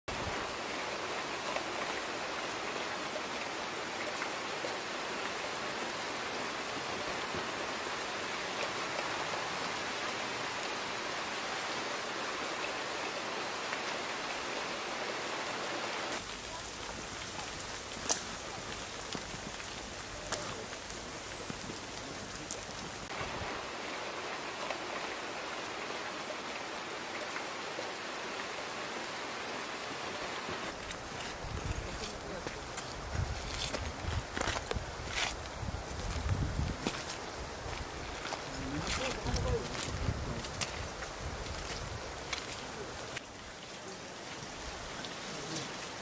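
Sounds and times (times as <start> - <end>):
steady rain hiss: 0.1 - 46.0.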